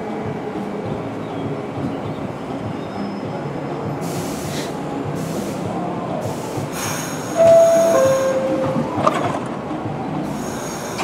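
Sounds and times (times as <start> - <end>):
subway train humming: 0.0 - 11.0.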